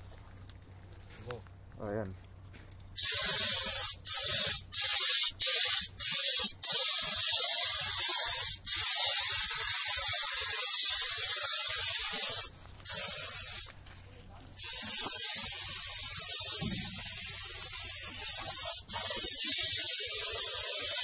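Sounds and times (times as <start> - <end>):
paint spray gun hissing: 3.0 - 13.8, 14.6 - 21.0.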